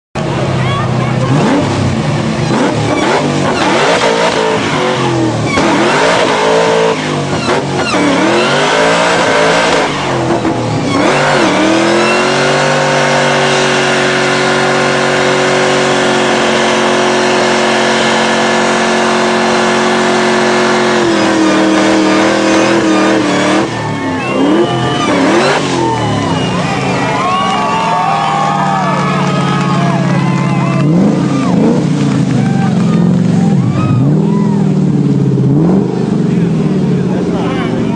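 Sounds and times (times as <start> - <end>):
race car engine revving: 0.2 - 37.9.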